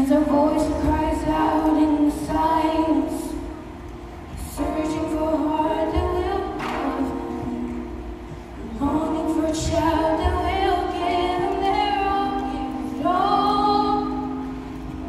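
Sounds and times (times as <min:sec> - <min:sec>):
backing music: 0:00.0 - 0:15.0.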